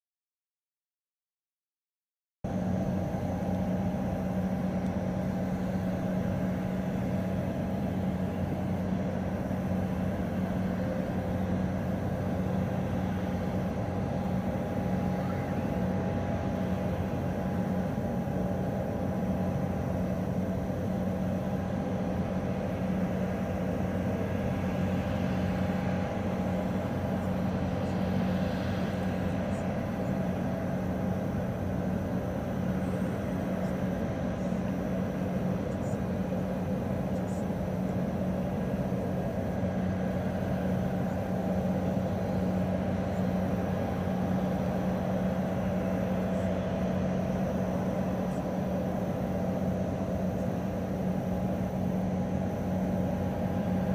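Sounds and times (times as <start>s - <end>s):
low mechanical drone: 2.4s - 53.9s.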